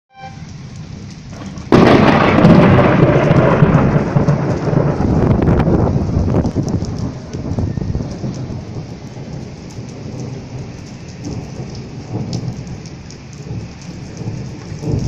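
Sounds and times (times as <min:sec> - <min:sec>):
steady rain: 0:00.1 - 0:15.0
thunder rumbling: 0:00.2 - 0:15.0.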